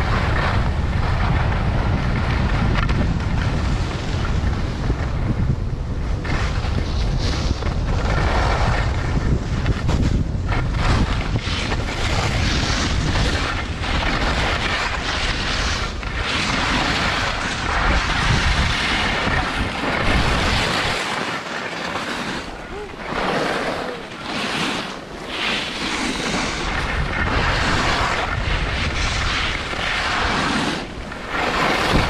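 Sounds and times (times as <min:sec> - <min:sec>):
wind buffeting microphone: 0:00.0 - 0:21.2, 0:21.9 - 0:32.0
skis carving on packed snow: 0:00.0 - 0:32.0.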